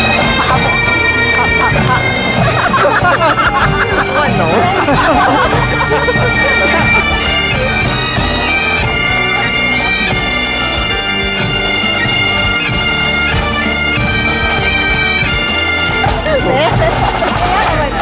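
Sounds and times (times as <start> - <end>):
bagpipes playing a tune: 0.0 - 18.0.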